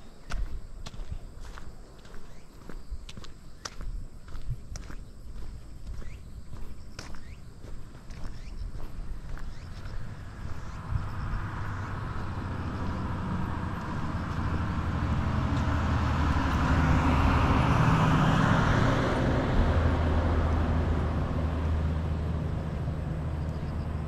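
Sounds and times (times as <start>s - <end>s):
road vehicle passing by: 4.7s - 24.0s.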